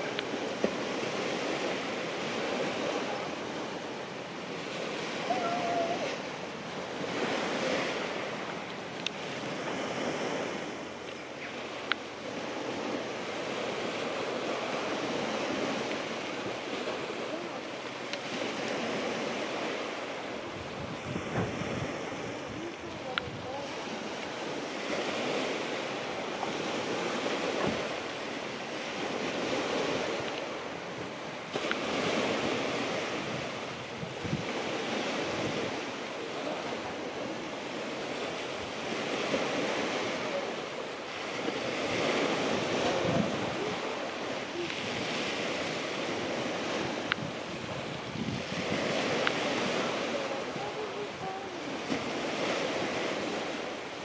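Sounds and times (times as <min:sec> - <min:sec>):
sea waves breaking: 0:00.0 - 0:54.0
wind on microphone: 0:00.0 - 0:54.0.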